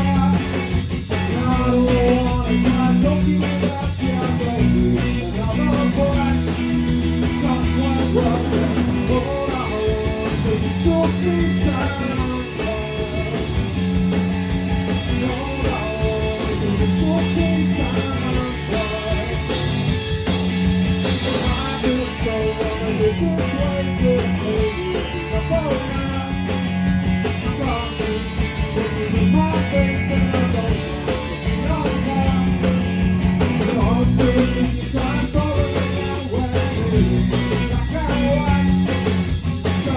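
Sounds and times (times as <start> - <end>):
person singing: 0.0 - 13.5, 15.2 - 19.7, 21.2 - 26.6, 27.4 - 32.8, 33.7 - 39.9
drums: 0.0 - 39.9
electric guitar: 0.0 - 39.9.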